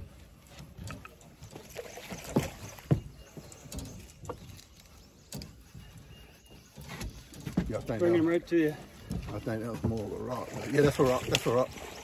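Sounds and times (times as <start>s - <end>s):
knocks and bumps in a boat: 0.0s - 12.0s.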